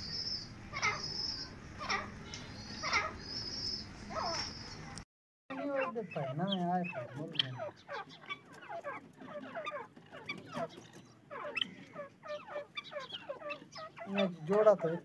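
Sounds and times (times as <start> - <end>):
francolins chattering calls: 0.0 - 15.0.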